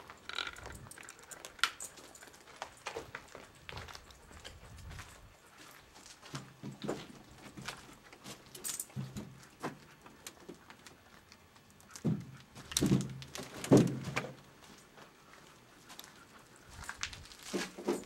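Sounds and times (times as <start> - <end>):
footsteps crunching over debris: 0.0 - 9.8, 12.0 - 18.0.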